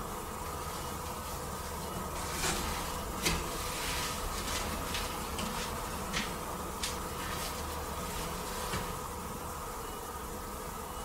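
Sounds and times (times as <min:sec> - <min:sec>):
steady buzzing hum: 0:00.0 - 0:11.0.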